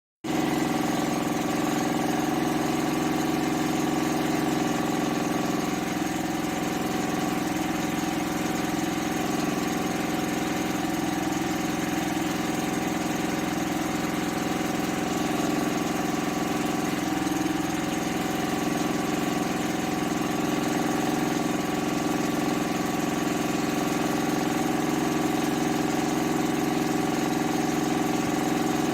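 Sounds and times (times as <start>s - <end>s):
generator running: 0.3s - 28.9s.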